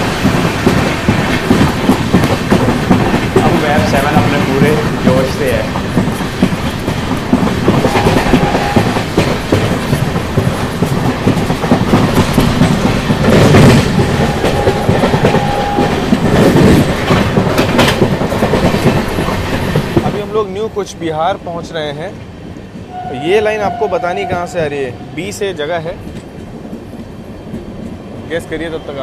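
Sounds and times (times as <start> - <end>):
train wheels clattering on rails: 0.0 - 29.0.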